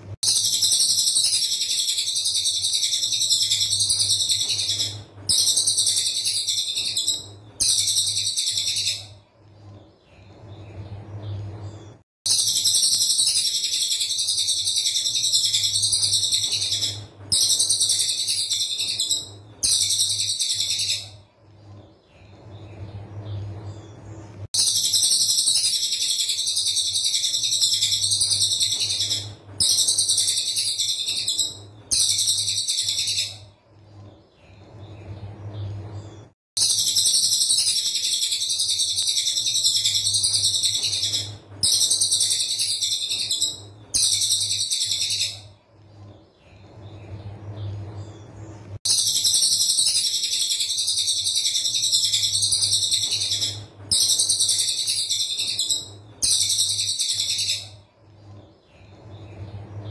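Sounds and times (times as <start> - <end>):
bird singing rapid buzzy bursts: 0.0 - 47.4, 48.0 - 59.9.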